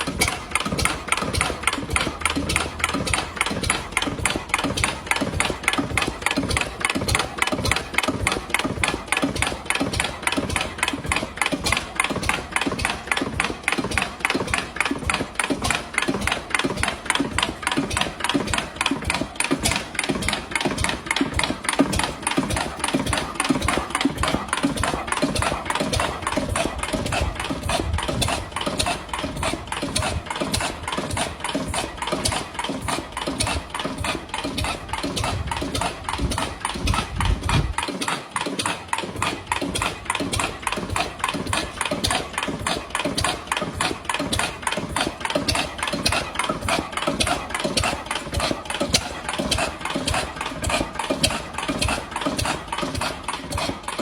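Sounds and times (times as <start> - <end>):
old engine idling: 0.0 - 54.0.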